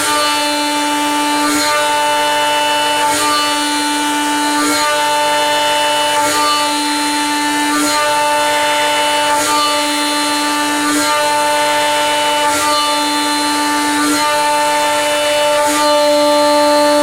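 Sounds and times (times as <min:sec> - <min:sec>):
milling machine cutting metal whine: 0:00.0 - 0:17.0.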